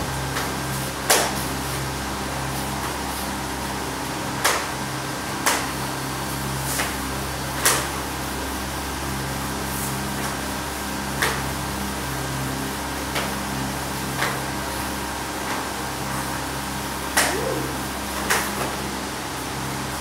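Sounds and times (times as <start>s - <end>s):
steady low hum: 0.0s - 13.0s, 14.6s - 20.0s.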